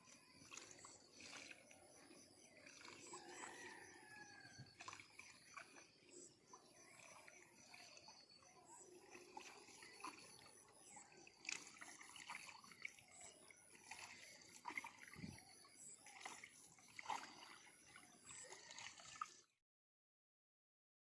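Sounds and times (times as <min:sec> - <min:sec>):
small splashes and ticks: 0:00.0 - 0:19.5
water trickling and sloshing: 0:00.0 - 0:19.6.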